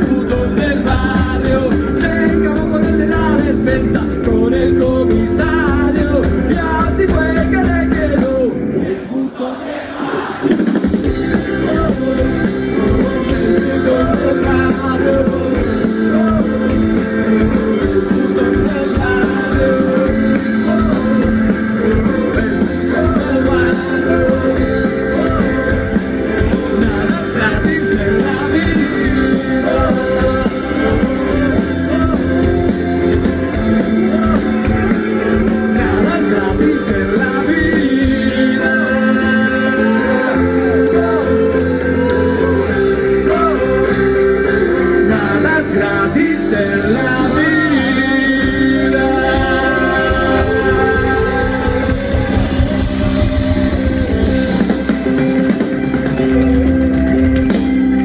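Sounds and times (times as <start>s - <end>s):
live rock band with singing: 0.0s - 58.0s.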